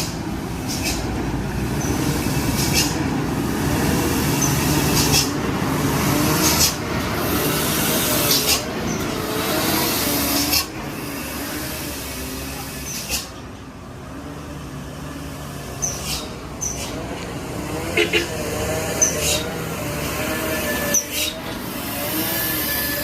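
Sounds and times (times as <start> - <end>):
heavy truck engine under load: 0.0 - 23.0.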